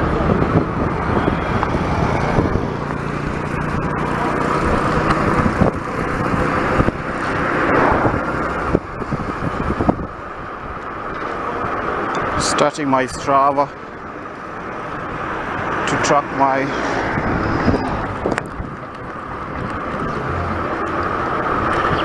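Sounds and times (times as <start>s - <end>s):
traffic rushing noise: 0.0s - 22.0s
vehicle engine hum: 0.0s - 22.0s.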